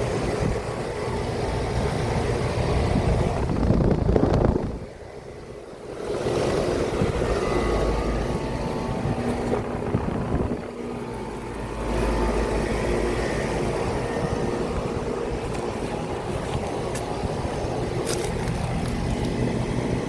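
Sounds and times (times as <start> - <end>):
air conditioning units humming: 0.0 - 20.0.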